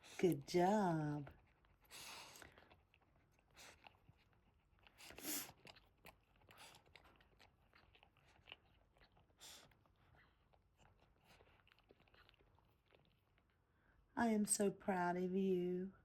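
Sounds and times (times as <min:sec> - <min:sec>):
dog licking puppy: 0:00.0 - 0:13.6.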